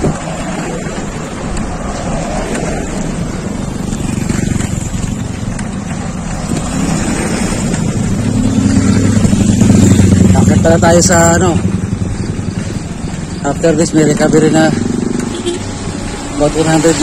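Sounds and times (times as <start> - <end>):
cars passing on road: 0.0 - 17.0
motor vehicle engine: 0.0 - 17.0
wind buffeting microphone: 0.0 - 17.0.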